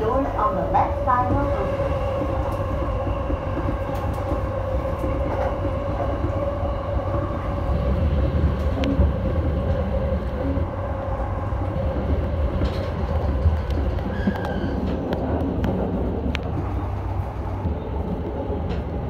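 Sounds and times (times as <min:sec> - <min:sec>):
electric train rumbling on track: 0:00.0 - 0:19.0
train hum: 0:00.0 - 0:19.0.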